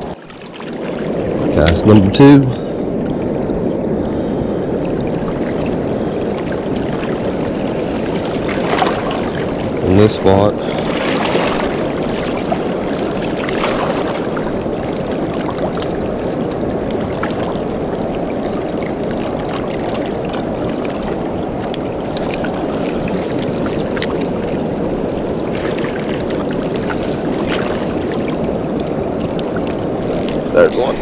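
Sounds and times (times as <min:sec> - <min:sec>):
water roaring through spillway: 0:00.0 - 0:31.0.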